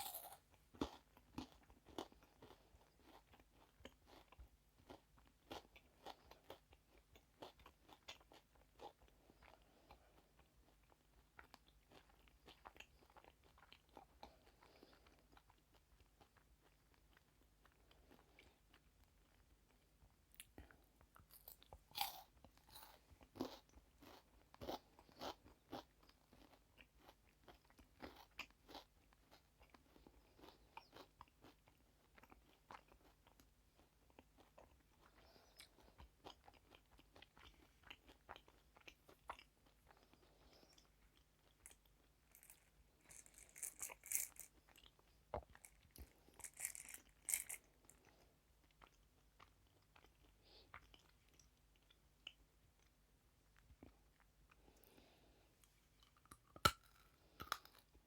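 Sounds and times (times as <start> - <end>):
chewing and crunching sweets: 0.0 - 58.0.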